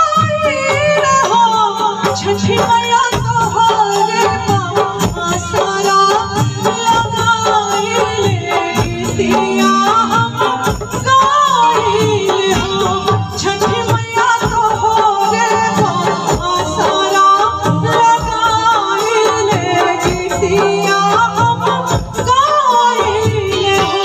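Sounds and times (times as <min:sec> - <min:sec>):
hand drum beat: 0:00.0 - 0:24.0
keyboard: 0:00.0 - 0:24.0
woman singing into a microphone: 0:00.0 - 0:24.0.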